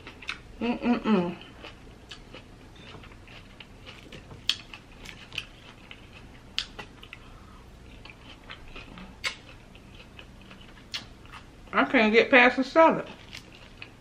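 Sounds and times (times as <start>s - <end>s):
wet chewing with crunches: 0.0s - 0.5s, 1.4s - 11.5s, 13.1s - 14.0s.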